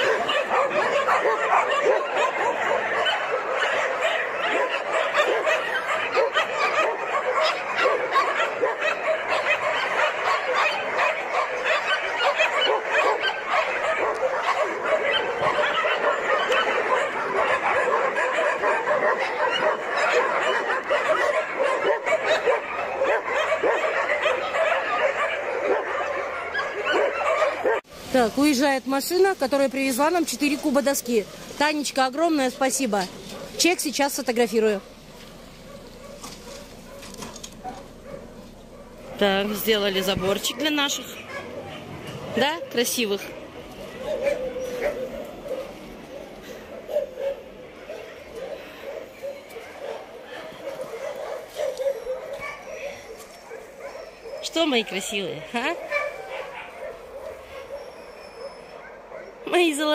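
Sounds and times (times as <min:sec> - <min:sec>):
many dogs barking: 0:00.0 - 0:59.9.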